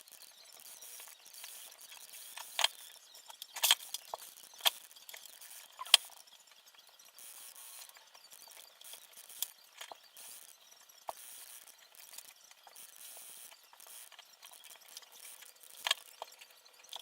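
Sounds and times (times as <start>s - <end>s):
sharp clicks: 0.8s - 17.0s.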